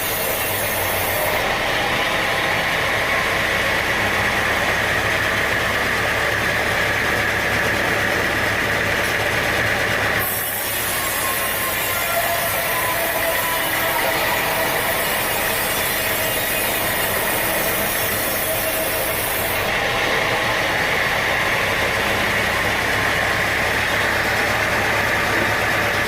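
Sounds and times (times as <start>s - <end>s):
sawmill saw whining: 0.0s - 26.0s.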